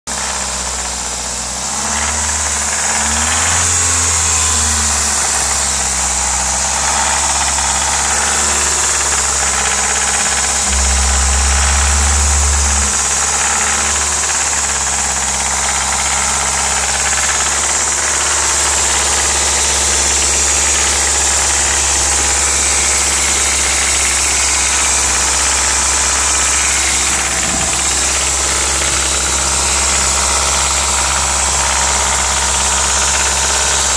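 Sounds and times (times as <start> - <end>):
car engine idling: 0.1 - 33.9
engine rattle: 0.1 - 33.9.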